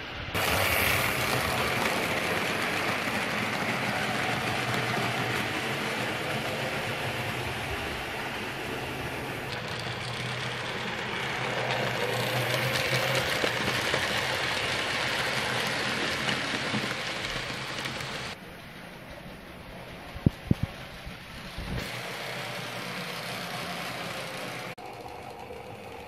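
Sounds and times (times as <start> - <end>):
model train wheels rattling: 0.4 - 26.0.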